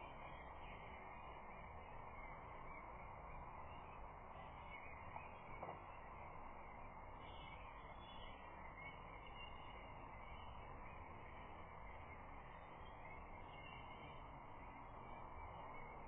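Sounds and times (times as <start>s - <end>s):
distant bird calls: 0.0s - 16.0s
outdoor background noise: 0.0s - 16.0s.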